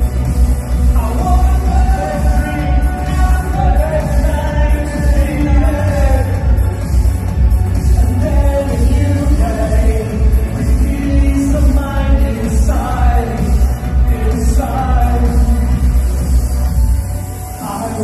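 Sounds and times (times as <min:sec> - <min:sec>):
electronic bass beat: 0:00.0 - 0:18.0
person singing: 0:00.9 - 0:07.0, 0:07.8 - 0:16.1.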